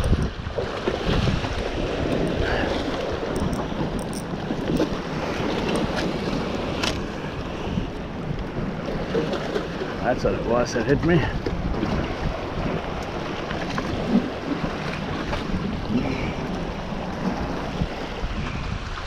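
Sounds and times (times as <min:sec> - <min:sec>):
surf washing: 0:00.0 - 0:19.0
wind buffeting microphone: 0:00.0 - 0:19.0.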